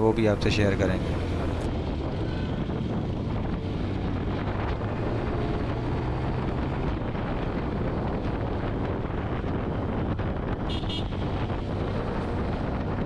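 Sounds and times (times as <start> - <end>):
motorcycle engine humming: 0.0 - 13.0
wind rushing over microphone: 0.0 - 13.0.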